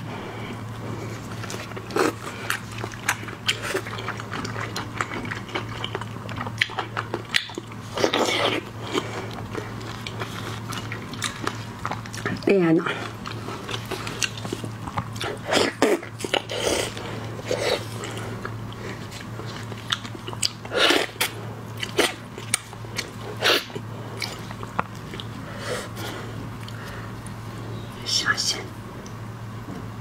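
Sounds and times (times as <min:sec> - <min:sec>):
low hum: 0:00.0 - 0:30.0
mouth smacking and chewing: 0:01.0 - 0:27.4.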